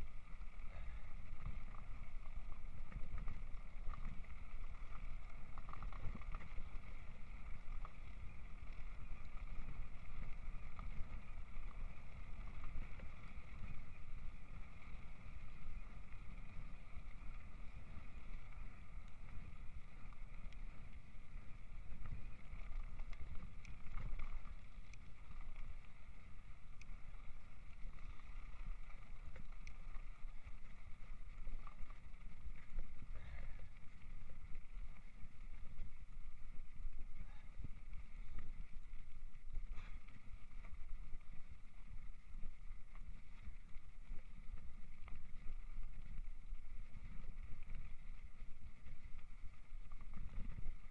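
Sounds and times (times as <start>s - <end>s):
bike tyres rumbling on gravel: 0.0s - 50.9s
small clicks and rattles: 0.3s - 50.9s.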